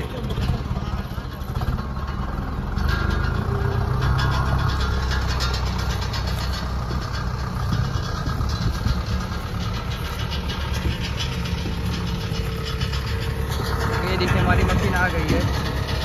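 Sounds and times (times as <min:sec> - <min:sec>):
light rattling clatter: 0:00.0 - 0:16.0
vehicle engine running: 0:00.0 - 0:16.0.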